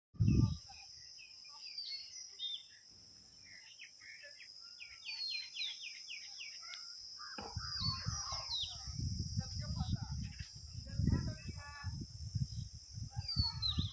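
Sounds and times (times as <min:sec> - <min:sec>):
high insect drone: 0:00.2 - 0:13.9
small birds chirping: 0:00.2 - 0:13.9.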